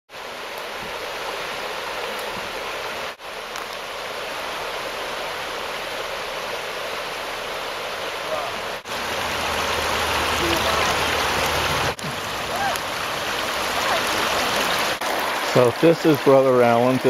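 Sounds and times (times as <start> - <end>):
brook babbling: 0.1 - 17.0.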